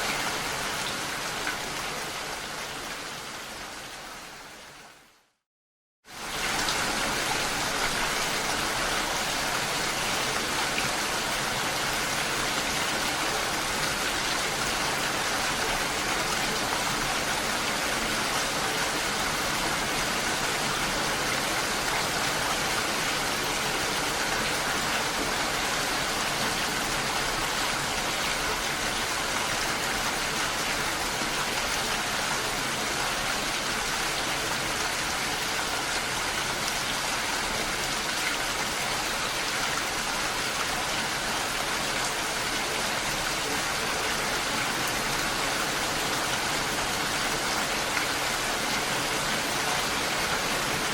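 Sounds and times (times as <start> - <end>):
steady rain: 0.0 - 5.4, 6.0 - 50.9.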